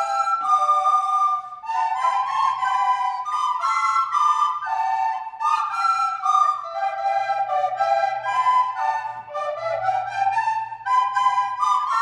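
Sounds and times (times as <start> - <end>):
children playing recorders: 0.0 - 12.0.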